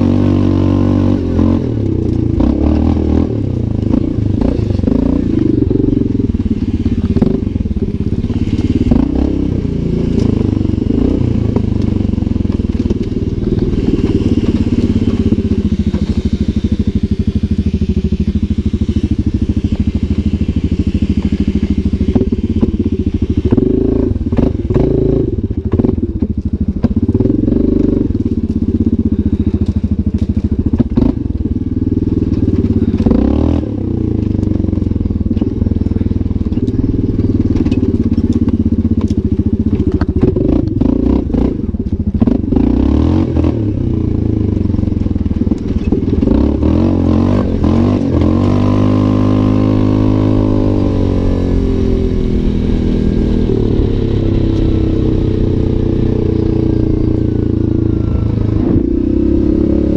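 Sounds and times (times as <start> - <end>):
quad bike engine running: 0.0 - 59.9
knocks and clatter from rough track: 0.1 - 59.0.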